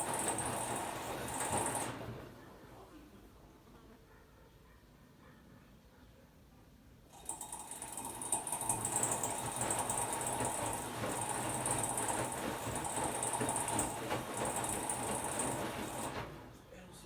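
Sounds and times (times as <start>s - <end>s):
washer-dryer whirring: 0.0s - 4.7s, 7.1s - 17.0s.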